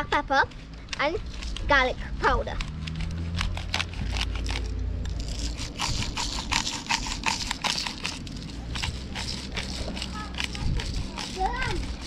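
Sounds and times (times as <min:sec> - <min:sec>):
pepper grinder grinding: 0:00.4 - 0:12.0.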